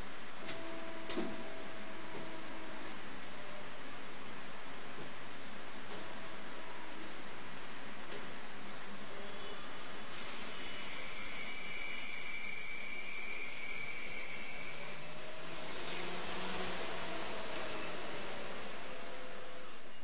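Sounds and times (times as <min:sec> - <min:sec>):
machine spindle high-pitched whine: 0:00.5 - 0:20.0.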